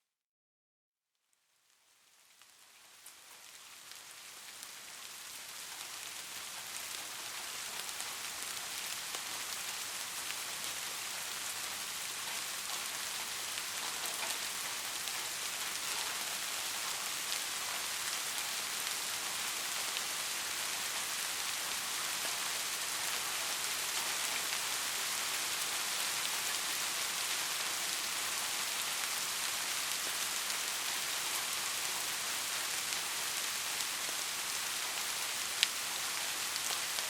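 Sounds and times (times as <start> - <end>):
steady rain: 1.6 - 37.0.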